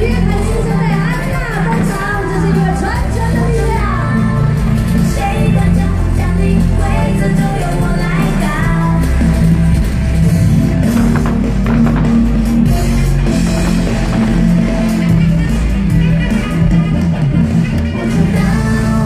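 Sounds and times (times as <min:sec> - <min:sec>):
loud music with drums: 0:00.0 - 0:19.0.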